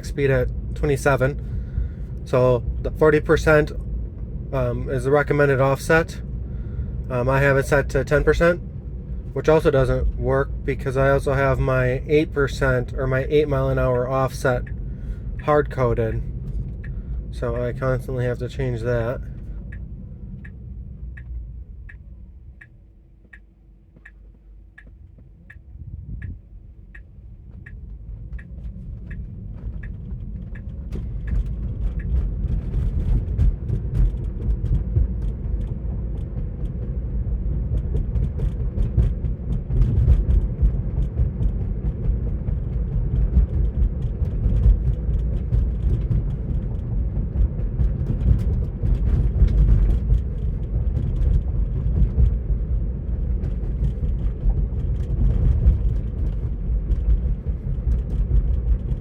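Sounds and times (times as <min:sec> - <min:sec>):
road and tyre rumble: 0:00.0 - 0:59.0
turn signal ticking: 0:00.0 - 0:59.0.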